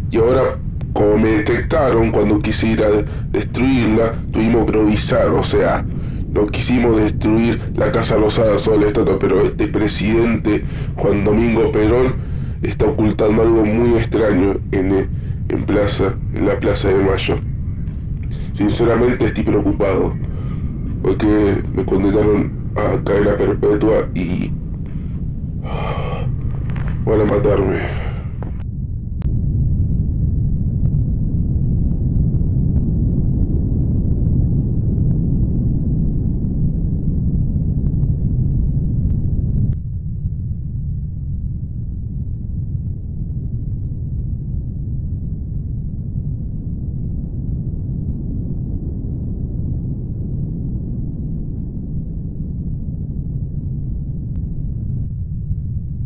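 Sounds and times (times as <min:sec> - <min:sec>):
deep rumble: 0:00.0 - 0:56.0.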